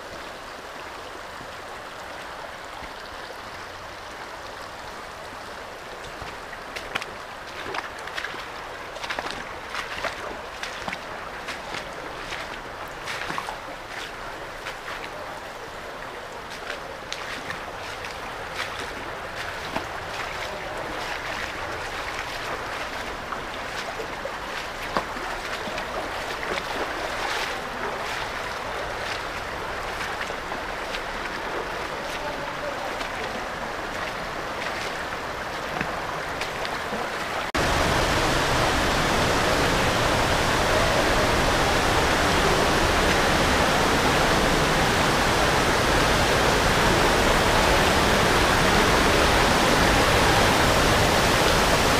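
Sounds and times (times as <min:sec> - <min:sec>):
creek water rushing over stones: 0:00.0 - 0:51.9
water splashes: 0:00.0 - 0:51.9.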